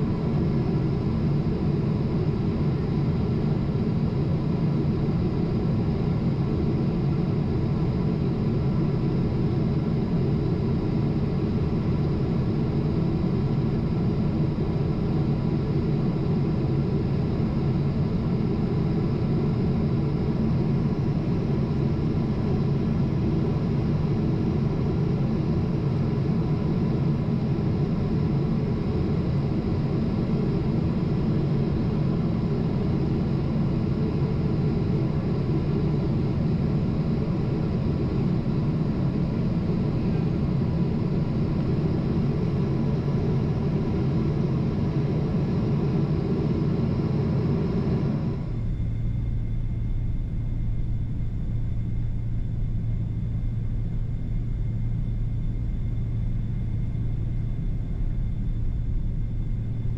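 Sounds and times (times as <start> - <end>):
airplane engine roar in cabin: 0.0 - 59.9.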